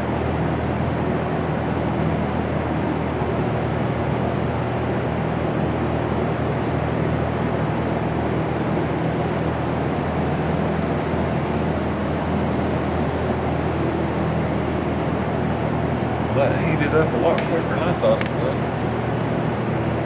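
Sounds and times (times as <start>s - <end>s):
machine noise with low hum: 0.0s - 20.0s.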